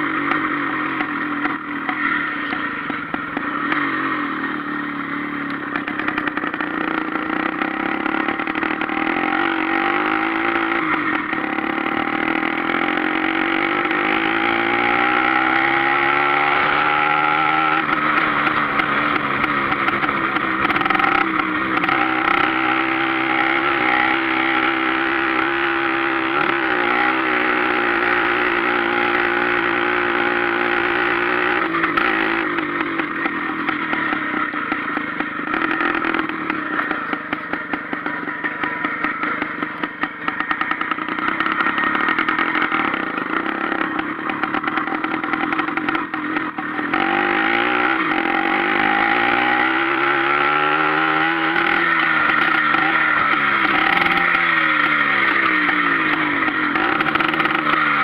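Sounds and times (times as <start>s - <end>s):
moped engine running: 0.0s - 58.0s.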